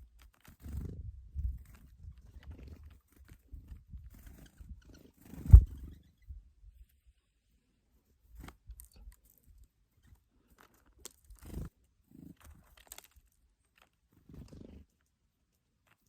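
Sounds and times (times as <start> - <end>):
faint crunching and rustling clicks: 0.0 - 5.2, 8.0 - 16.0.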